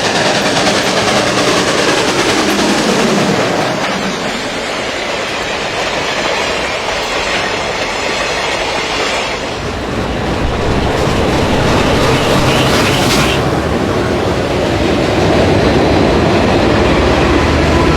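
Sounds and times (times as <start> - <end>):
train wheels rattling over rails: 0.0 - 17.9.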